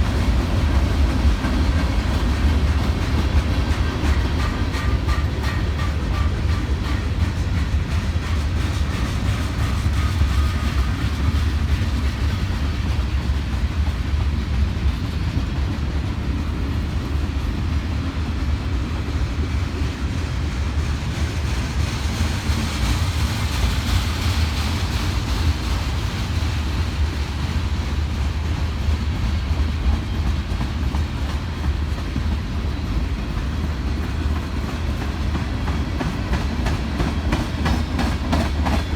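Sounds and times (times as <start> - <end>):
freight train wheels rumbling: 0.0 - 38.9
train hiss: 0.0 - 38.9.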